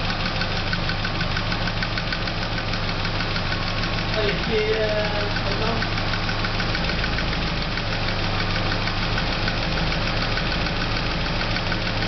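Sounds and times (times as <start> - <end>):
van engine idling: 0.0 - 12.0
faint regular ticking: 0.4 - 11.9.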